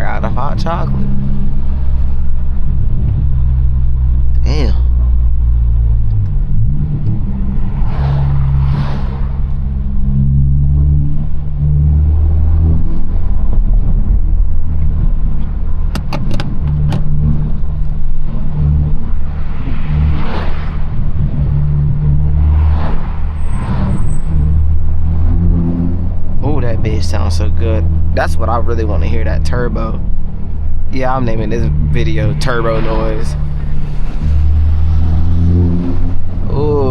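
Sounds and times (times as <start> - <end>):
car engine drone: 0.0 - 36.9.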